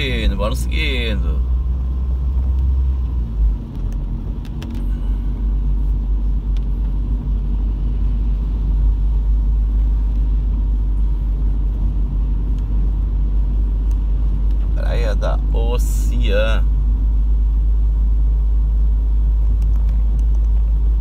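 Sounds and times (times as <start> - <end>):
car cabin engine and road rumble: 0.0 - 21.0.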